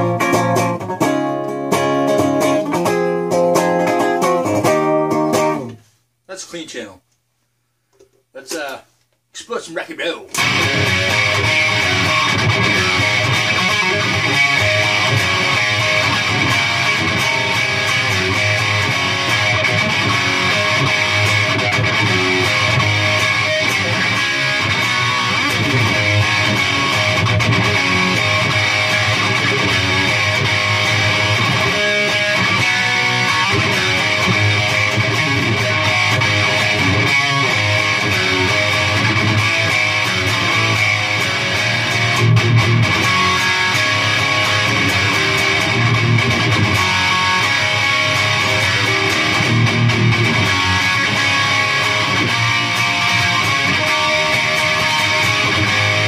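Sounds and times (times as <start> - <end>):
overdriven electric guitar riffs: 0.0 - 5.9, 10.3 - 56.0.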